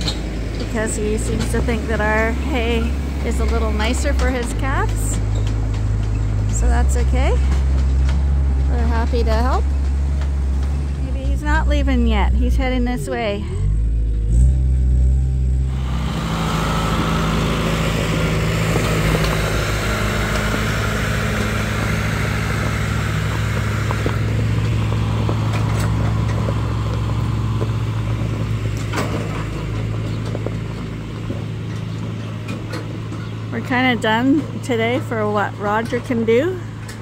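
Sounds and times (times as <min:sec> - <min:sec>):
wagons knocking: 0:00.0 - 0:13.3, 0:15.7 - 0:37.0
tractor engine running: 0:00.0 - 0:37.0.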